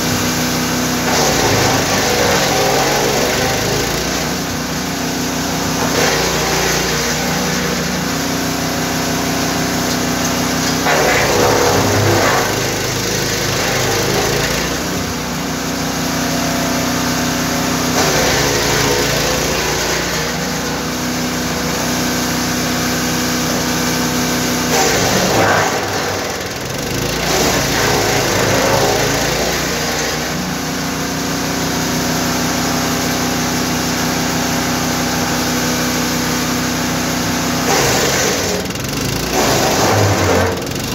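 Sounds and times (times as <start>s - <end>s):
wood chipper engine running: 0.0s - 40.9s.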